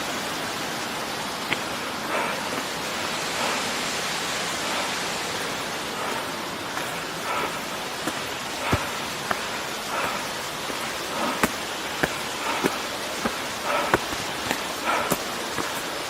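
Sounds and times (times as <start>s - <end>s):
waterfall and stream rushing: 0.0s - 16.0s
footsteps on path: 1.5s - 3.7s, 4.6s - 16.0s.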